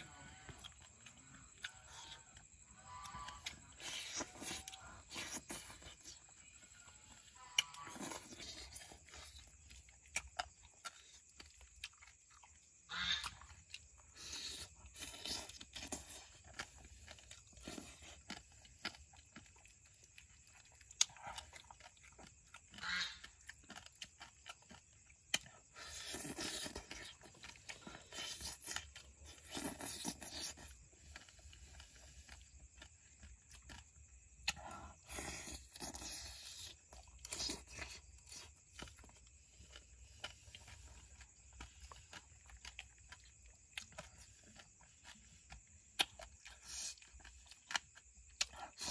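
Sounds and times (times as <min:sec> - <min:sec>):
person chewing and biting: 0:00.3 - 0:48.9.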